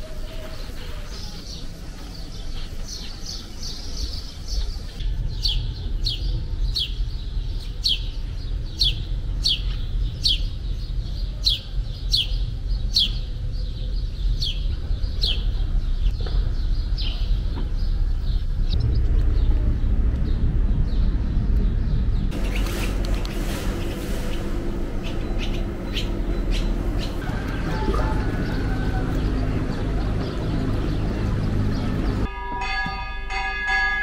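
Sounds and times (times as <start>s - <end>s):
low rumble: 4.4s - 32.3s.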